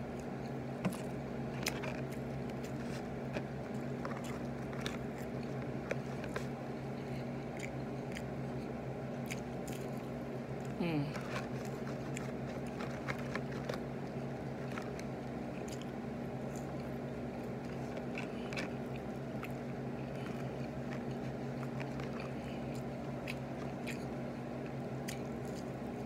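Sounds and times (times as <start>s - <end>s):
chewing crunchy food: 0.0s - 26.0s
steady low hum: 0.0s - 26.0s.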